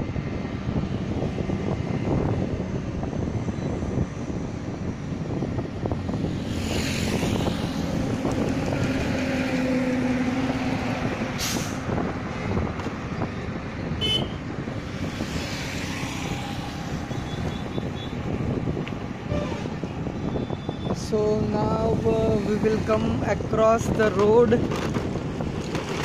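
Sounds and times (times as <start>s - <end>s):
motorcycle engine and tyre noise: 0.0s - 26.0s
trucks passing: 0.0s - 26.0s.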